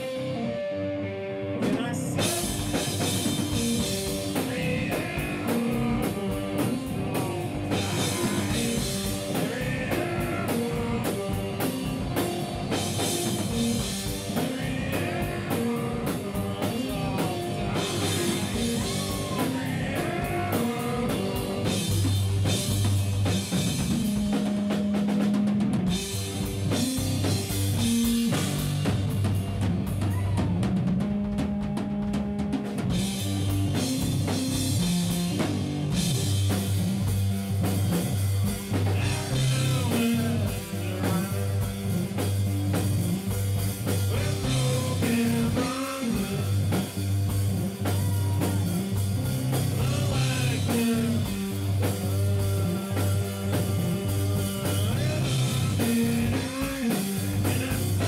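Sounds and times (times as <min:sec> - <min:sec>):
rock band playing instrumental: 0:00.0 - 0:58.0
drum kit: 0:01.5 - 0:58.0.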